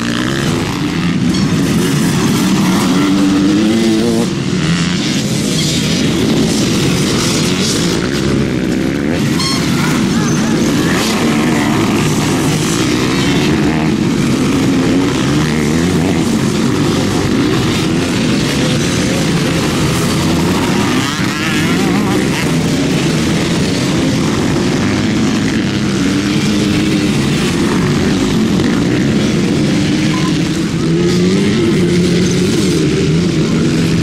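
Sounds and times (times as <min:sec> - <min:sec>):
motocross bike engines revving: 0:00.0 - 0:34.0.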